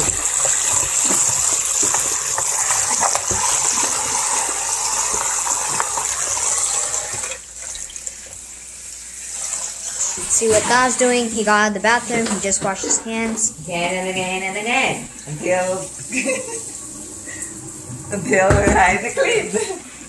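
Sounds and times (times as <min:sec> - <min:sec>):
water running from tap: 0:00.0 - 0:20.0.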